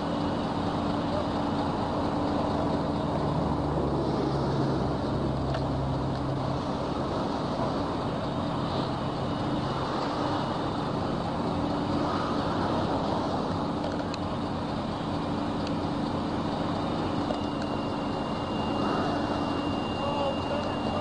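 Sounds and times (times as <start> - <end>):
large engine humming: 0.0 - 21.0.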